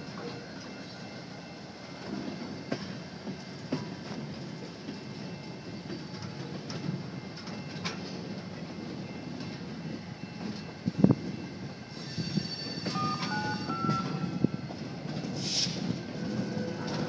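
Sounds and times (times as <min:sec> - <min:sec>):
rail clicks: 0:00.0 - 0:17.0
steel wheels rumbling on rail: 0:00.0 - 0:17.0.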